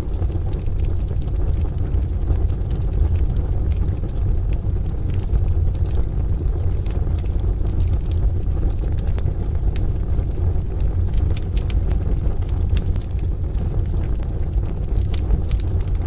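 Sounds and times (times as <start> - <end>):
steady low rumble: 0.0 - 16.0
wood fire crackling and popping: 0.0 - 16.0.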